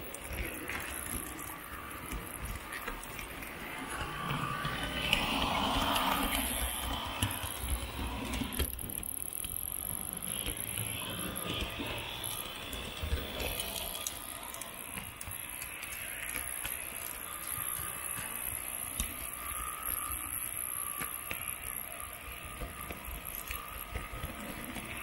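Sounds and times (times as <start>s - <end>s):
model train motor whine: 0.0s - 25.0s.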